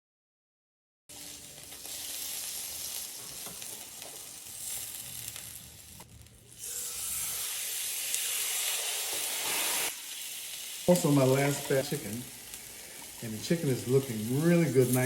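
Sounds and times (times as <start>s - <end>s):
chicken sizzling in a pan: 1.1s - 15.0s.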